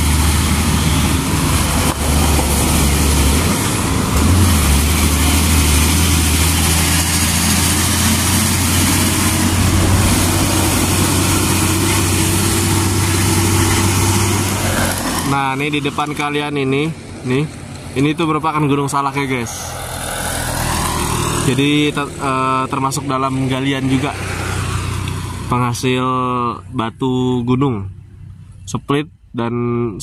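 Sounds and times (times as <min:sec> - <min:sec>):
truck diesel engine drone: 0:00.0 - 0:30.0.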